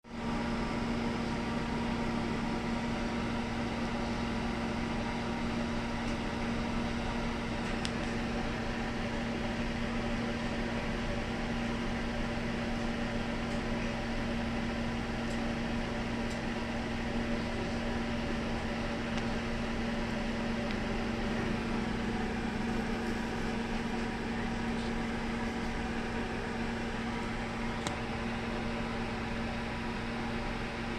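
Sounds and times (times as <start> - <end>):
low mechanical hum: 0.0 - 30.9.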